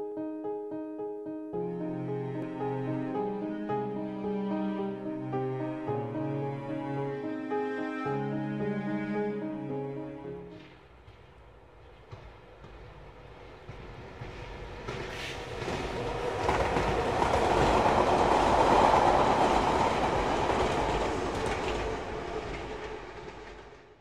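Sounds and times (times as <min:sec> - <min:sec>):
train passing: 0:01.6 - 0:24.0.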